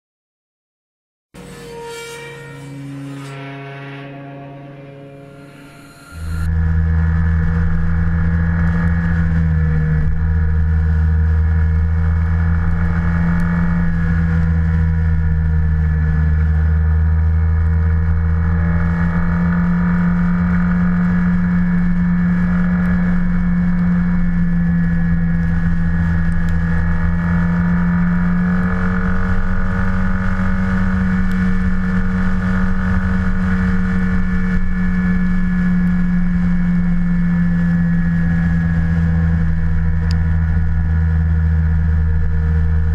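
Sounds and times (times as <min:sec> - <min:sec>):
scooter engine drone: 0:01.4 - 0:42.9.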